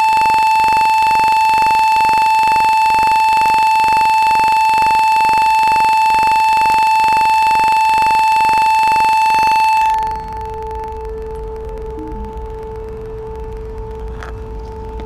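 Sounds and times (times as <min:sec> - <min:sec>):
steady electronic tone: 0:00.0 - 0:15.0.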